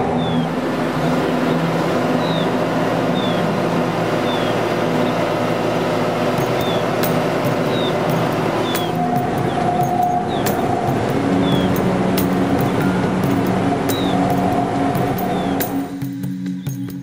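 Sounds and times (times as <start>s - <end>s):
high falling chirp: 0.0s - 16.0s
city traffic hum: 0.0s - 17.0s
low drone: 0.0s - 17.0s.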